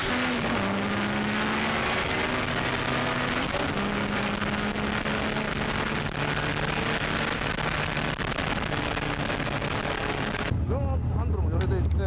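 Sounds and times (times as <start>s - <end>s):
car engine running hard: 0.0s - 12.0s
wind and road noise: 0.0s - 12.0s.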